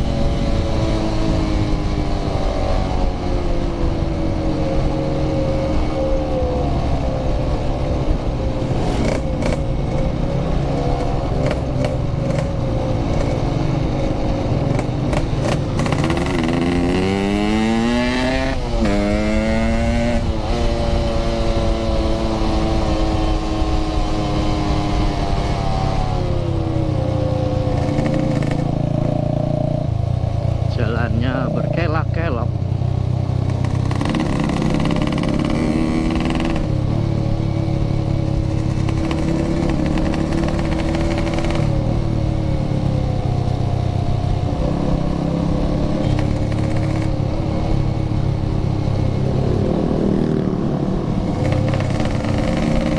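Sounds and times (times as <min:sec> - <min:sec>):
low wind rumble: 0:00.0 - 0:52.9
motorcycle engine revving: 0:00.0 - 0:52.9.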